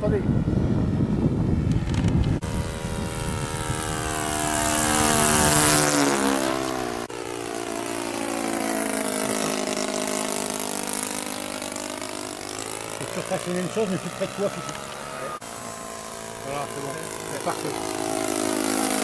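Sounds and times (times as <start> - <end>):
model plane engine flying by: 0.0 - 19.0.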